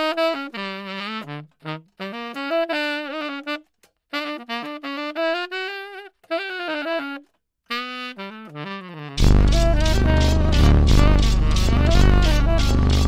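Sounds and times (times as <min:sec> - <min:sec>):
solo saxophone jazzy melody: 0:00.0 - 0:13.0.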